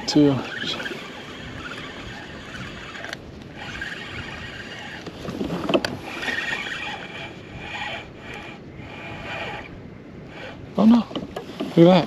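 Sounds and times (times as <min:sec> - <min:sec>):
fishing reel being cranked: 0:00.0 - 0:12.0.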